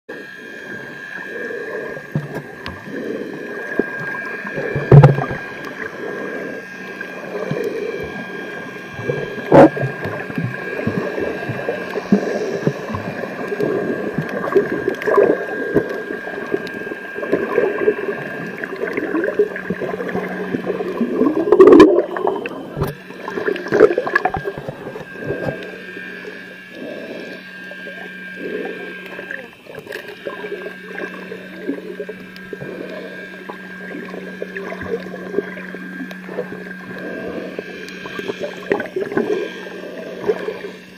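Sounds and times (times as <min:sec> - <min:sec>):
faint steady hum: 0:00.1 - 0:40.9
muffled underwater gurgling: 0:00.1 - 0:40.9.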